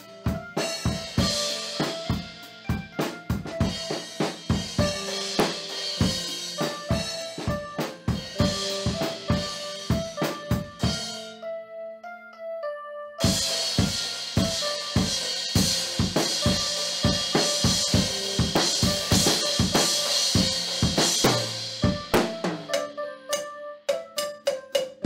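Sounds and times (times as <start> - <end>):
drum kit groove: 0.0 - 11.3, 13.2 - 25.0.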